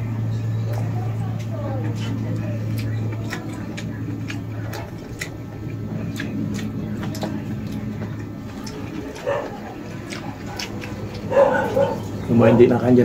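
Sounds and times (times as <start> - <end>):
steady low hum: 0.0 - 13.0
mouth clicks: 0.6 - 12.3
person chewing: 0.6 - 12.3.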